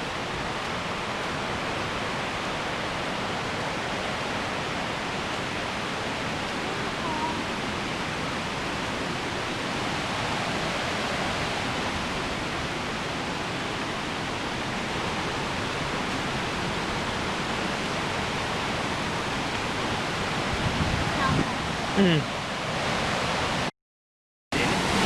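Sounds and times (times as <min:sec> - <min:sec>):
fast-flowing river water: 0:00.0 - 0:23.7, 0:24.6 - 0:25.0.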